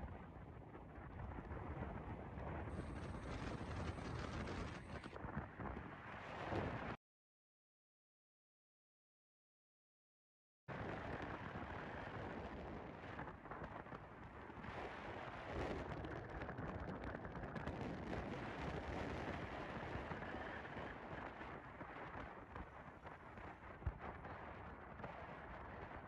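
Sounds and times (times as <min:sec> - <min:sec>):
road and wind noise in car: 0:00.0 - 0:07.0, 0:10.7 - 0:26.0.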